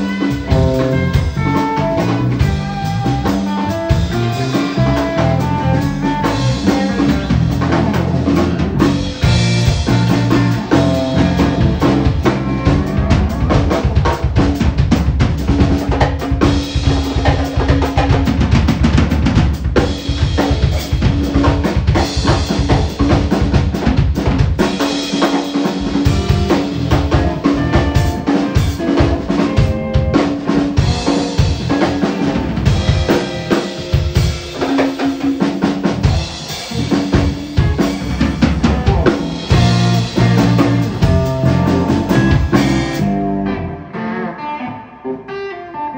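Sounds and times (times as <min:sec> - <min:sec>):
drum kit hits and fills: 0:00.0 - 0:43.8
live rock band: 0:00.0 - 0:45.9.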